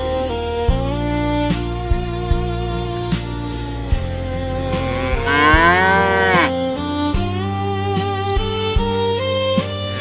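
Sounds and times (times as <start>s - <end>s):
slow melodic background music: 0.0s - 10.0s.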